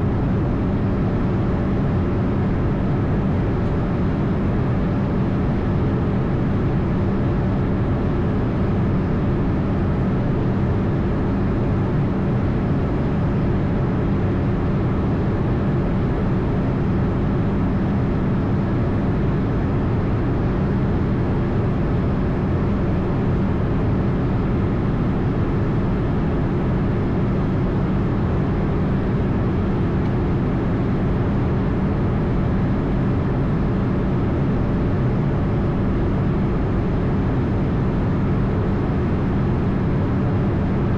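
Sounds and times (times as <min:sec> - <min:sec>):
jet engine hum: 0:00.0 - 0:40.9.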